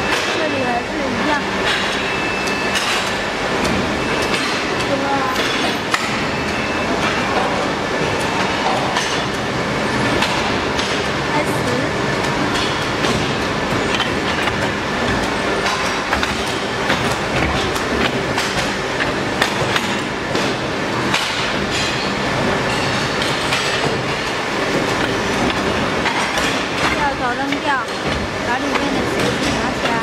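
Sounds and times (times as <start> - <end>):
moulding machine running: 0.0 - 30.0.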